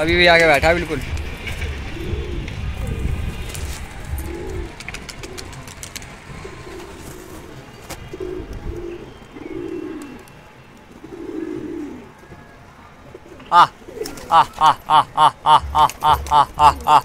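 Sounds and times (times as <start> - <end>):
pigeons cooing: 1.4 - 10.3, 10.9 - 12.2, 13.1 - 17.0.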